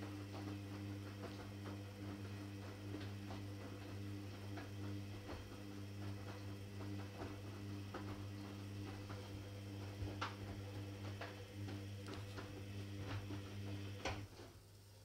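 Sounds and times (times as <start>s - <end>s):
washing machine tumbling: 0.0s - 14.4s.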